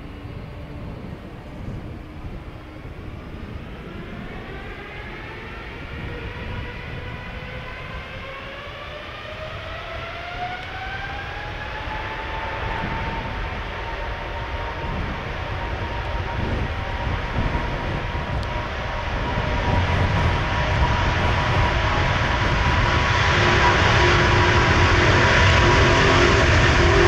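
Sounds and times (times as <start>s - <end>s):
jet engines spooling up: 0.0s - 27.0s
low rumble: 0.0s - 27.0s.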